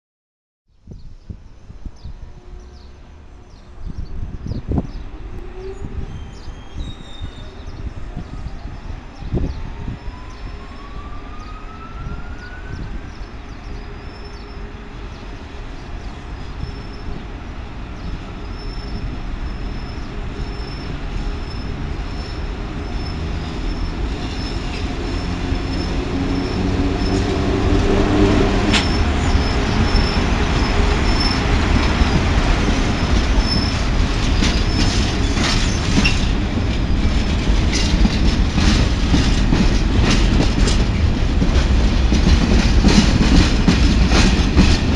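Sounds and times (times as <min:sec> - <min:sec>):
train approaching: 0:01.8 - 0:44.9.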